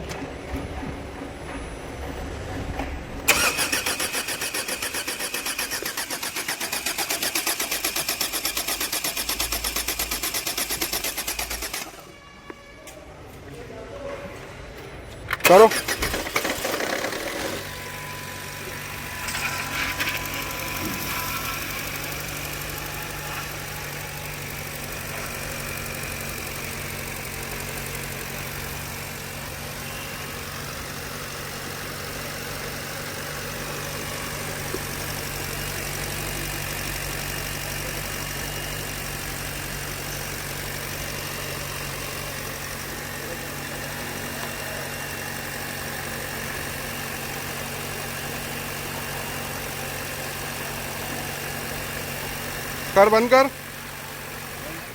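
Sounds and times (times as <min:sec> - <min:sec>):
car engine idling: 0:03.2 - 0:12.4, 0:15.3 - 0:54.9.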